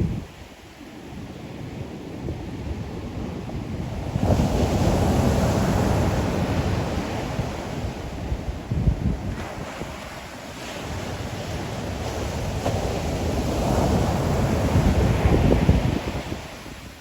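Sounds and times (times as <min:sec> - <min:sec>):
ocean waves breaking: 0:03.2 - 0:17.0.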